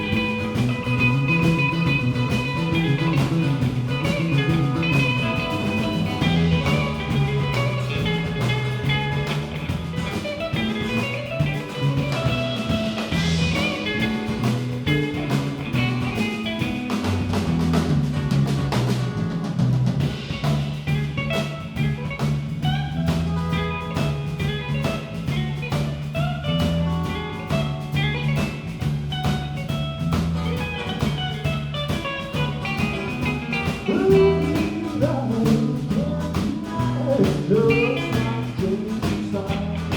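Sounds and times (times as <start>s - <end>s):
drum kit beat: 0.0s - 39.9s
guitar: 0.0s - 39.9s
walking bass line: 0.0s - 39.9s.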